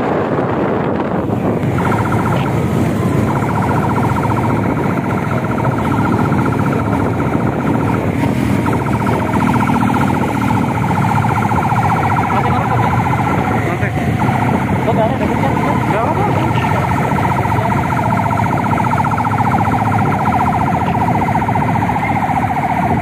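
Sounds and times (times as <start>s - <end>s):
engine and road rumble: 0.0s - 23.0s
siren warbling: 0.0s - 23.0s.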